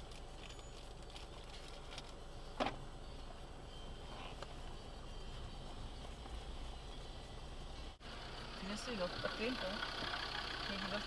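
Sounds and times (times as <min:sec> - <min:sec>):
off-road vehicle rumble: 0:00.0 - 0:11.0.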